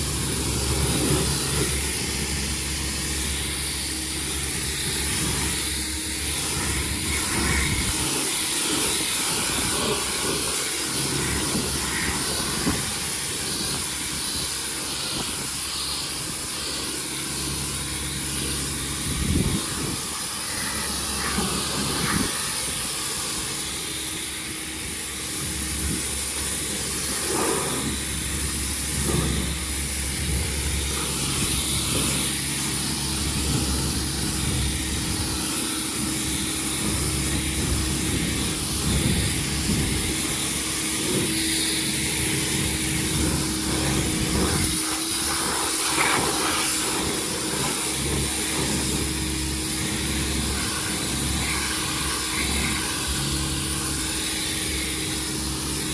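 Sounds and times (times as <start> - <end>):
low engine drone: 0.0 - 55.9
pressure washer spraying water: 0.0 - 55.9.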